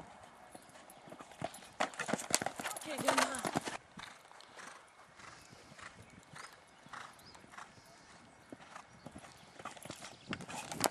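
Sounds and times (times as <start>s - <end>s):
horse hoofbeats on sand: 0.0s - 10.9s.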